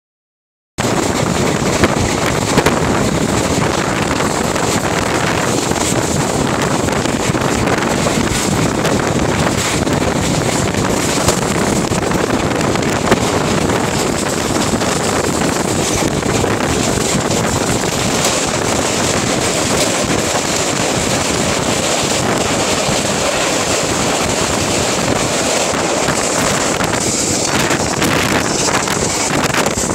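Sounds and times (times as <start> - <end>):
train running on track: 0.8 - 29.9
wind rushing over microphone: 0.8 - 29.9.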